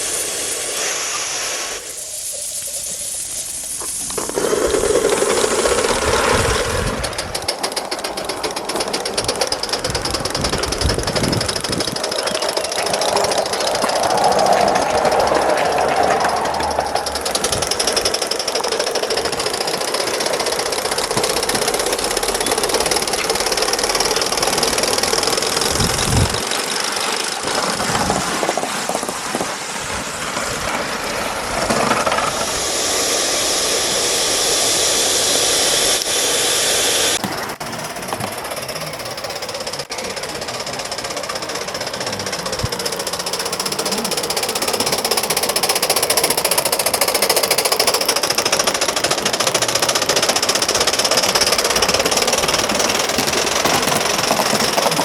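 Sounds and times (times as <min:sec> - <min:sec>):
model steam locomotive chuffing: 0:00.0 - 0:55.0
steam hiss: 0:00.0 - 0:55.0.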